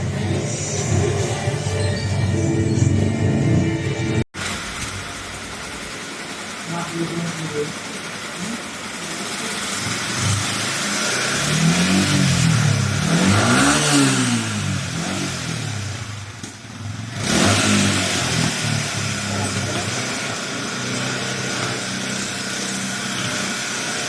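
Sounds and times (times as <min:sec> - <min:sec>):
motorcycle engine revving: 0:04.4 - 0:24.0.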